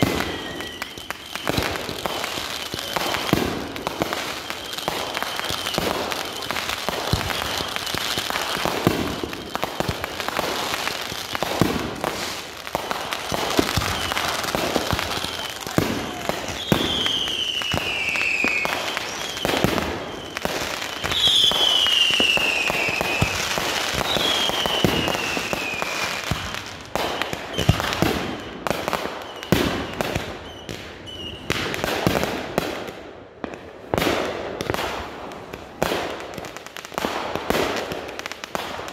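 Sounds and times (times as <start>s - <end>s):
falling firework whistles: 0.0s - 31.8s
fireworks launching and bursting: 0.0s - 38.9s.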